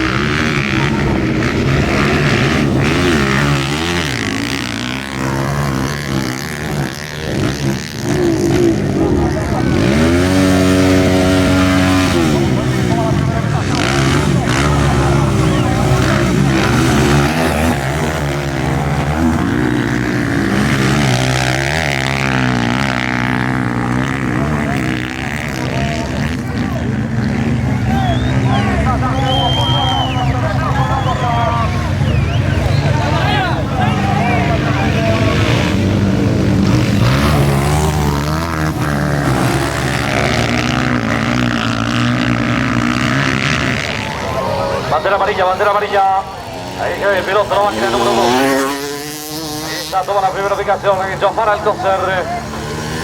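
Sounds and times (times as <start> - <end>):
motocross bike engines revving: 0.0 - 53.0.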